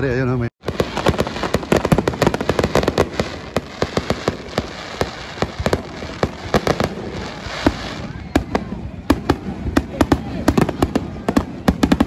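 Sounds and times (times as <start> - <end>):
fireworks bangs: 0.6 - 12.0
fireworks crackle: 0.6 - 12.0.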